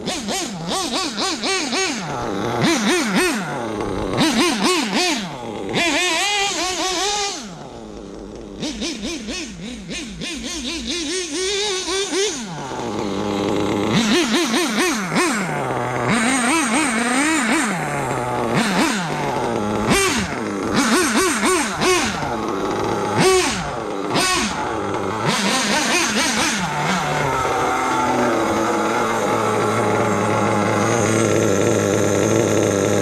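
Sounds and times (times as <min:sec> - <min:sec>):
nitro engine revving: 0:00.0 - 0:33.0.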